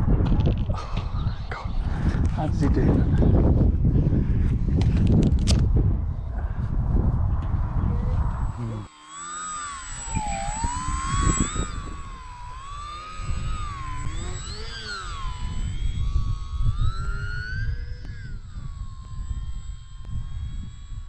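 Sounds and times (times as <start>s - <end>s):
wind rumble on microphone: 0.0s - 8.9s, 9.9s - 21.0s
model aircraft motor whining: 0.1s - 21.0s.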